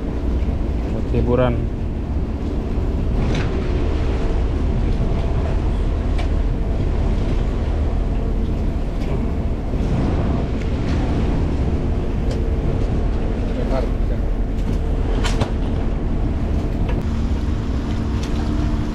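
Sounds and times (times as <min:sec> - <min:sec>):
low engine rumble: 0:00.0 - 0:18.9.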